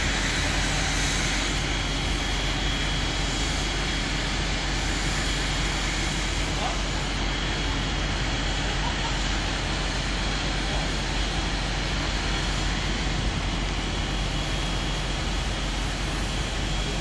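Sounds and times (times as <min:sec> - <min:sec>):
pump and compressor drone: 0:00.0 - 0:17.0.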